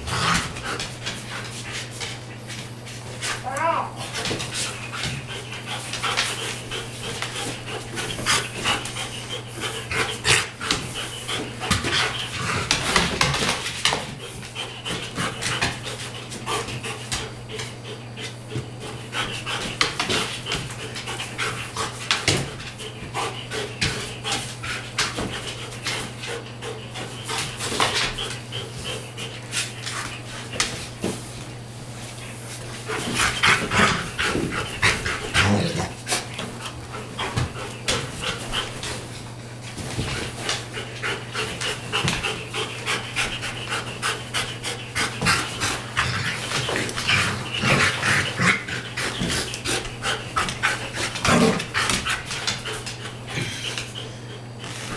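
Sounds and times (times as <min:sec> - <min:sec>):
dog panting hard: 0:00.0 - 0:03.4, 0:04.0 - 0:31.2, 0:32.2 - 0:54.9.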